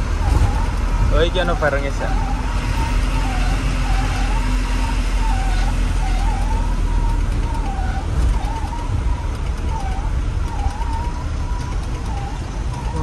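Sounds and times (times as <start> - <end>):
heavy truck engine rumble: 0.0 - 13.0.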